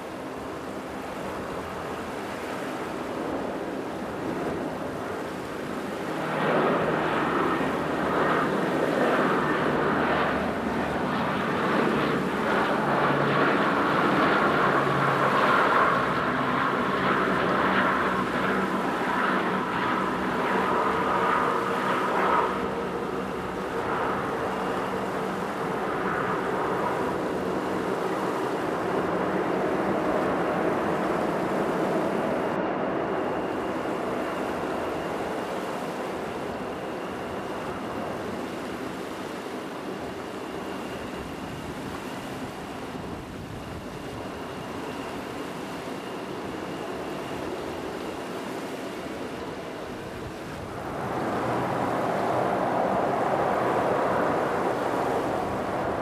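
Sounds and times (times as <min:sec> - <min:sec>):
broad rushing noise: 0:00.0 - 0:56.0
turboprop aircraft droning: 0:00.0 - 0:56.0.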